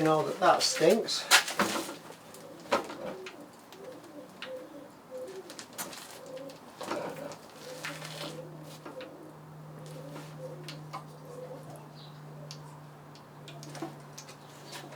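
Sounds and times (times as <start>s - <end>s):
pigeon cooing: 0.0s - 14.9s.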